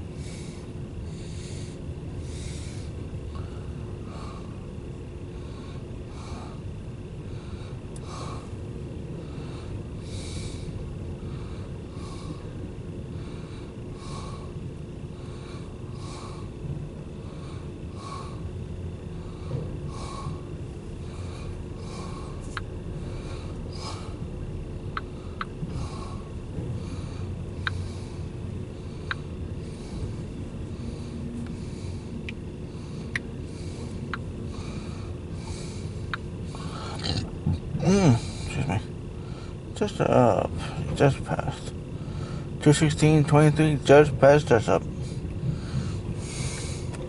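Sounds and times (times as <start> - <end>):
freight cars rumbling: 0.0 - 47.0.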